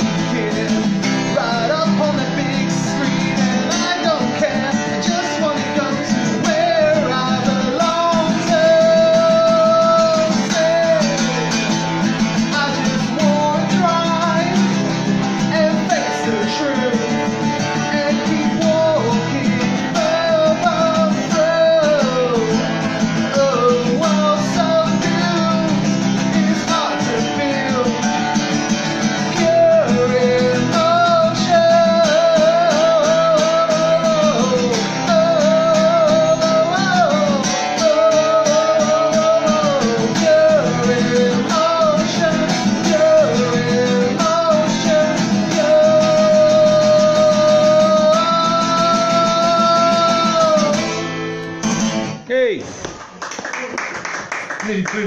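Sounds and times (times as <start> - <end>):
man singing: 0.0 - 51.4
acoustic guitar strumming: 0.0 - 53.2.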